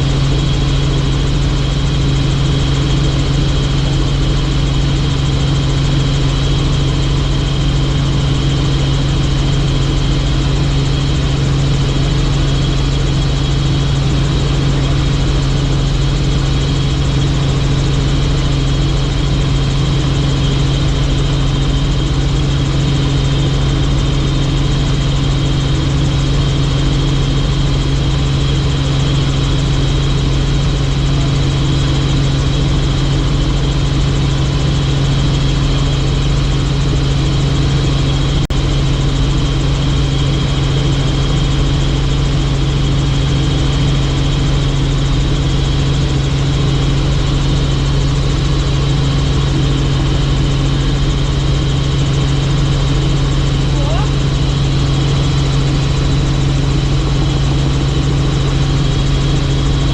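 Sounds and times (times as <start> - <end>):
helicopter rotor drone: 0.0 - 59.9.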